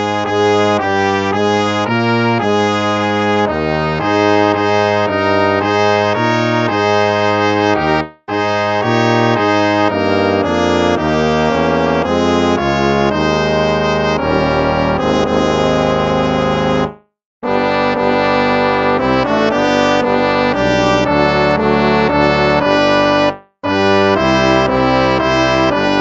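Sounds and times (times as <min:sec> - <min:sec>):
brass hymn tune: 0:00.0 - 0:26.0.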